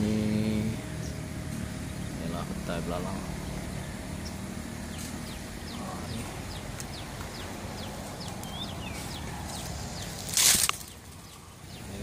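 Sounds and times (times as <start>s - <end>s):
small bird chirping: 0.5s - 12.0s.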